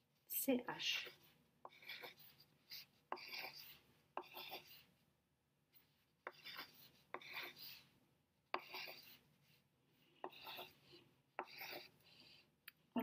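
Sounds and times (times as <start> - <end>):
pencil scratching on paper: 0.8 - 5.0, 5.7 - 12.6.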